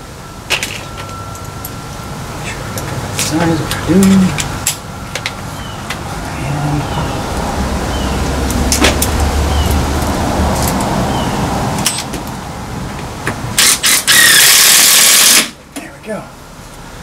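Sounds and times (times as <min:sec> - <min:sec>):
vehicle engine rumble: 0:00.0 - 0:14.2, 0:15.5 - 0:17.0.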